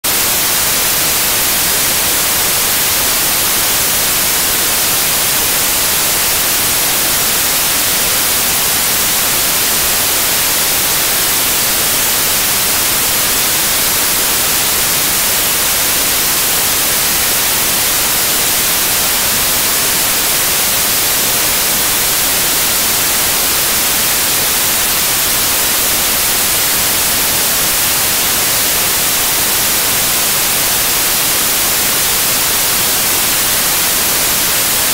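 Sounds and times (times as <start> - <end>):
television static hiss: 0.1 - 34.9.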